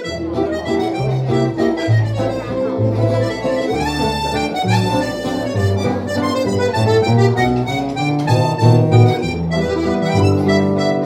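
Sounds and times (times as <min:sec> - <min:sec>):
bass line: 0:00.0 - 0:11.0
guitar: 0:00.0 - 0:11.0
reedy melody line: 0:00.0 - 0:11.0.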